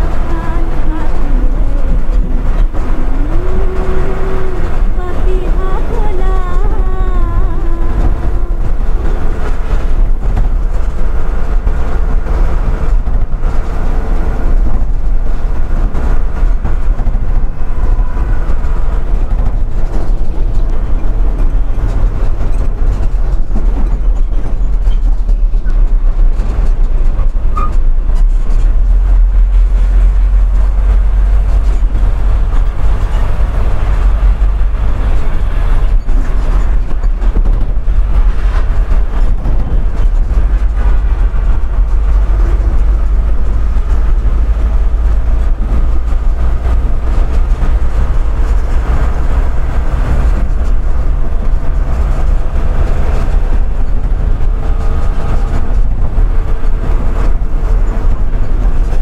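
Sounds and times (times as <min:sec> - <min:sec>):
large vehicle engine rumble: 0:00.0 - 0:59.0.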